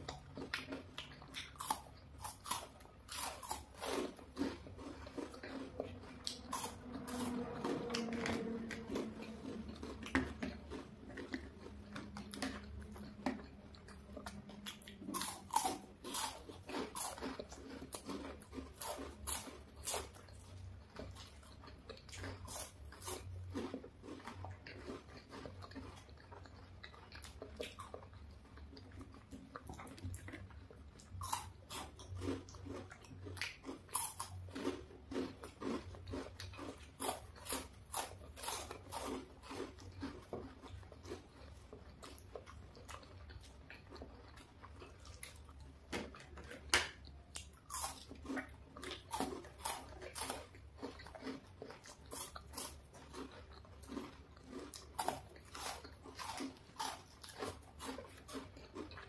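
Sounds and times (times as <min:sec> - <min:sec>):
crunchy wafer bars being chewed: 0:00.0 - 0:59.0.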